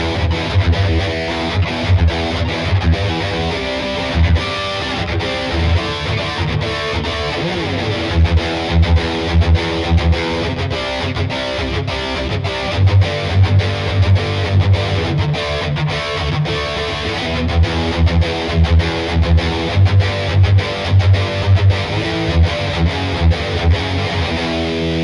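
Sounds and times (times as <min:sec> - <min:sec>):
distorted electric guitar riff: 0:00.0 - 0:25.0.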